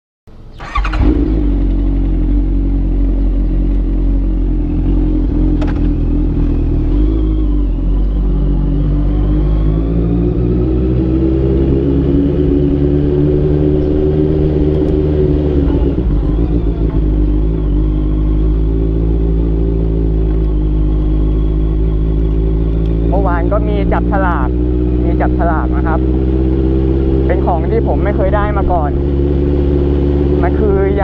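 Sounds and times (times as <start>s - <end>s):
motorcycle engine idling: 0.3s - 9.8s, 13.6s - 31.0s.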